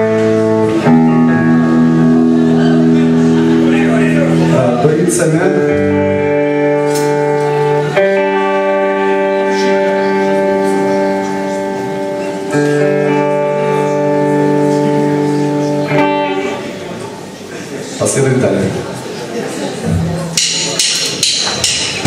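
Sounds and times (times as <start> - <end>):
live band playing slow chords: 0.0 - 22.0.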